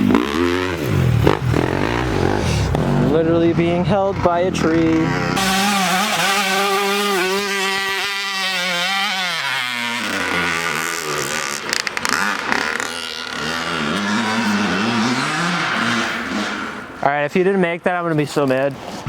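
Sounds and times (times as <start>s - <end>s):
dirt bike engine revving: 0.0s - 17.8s.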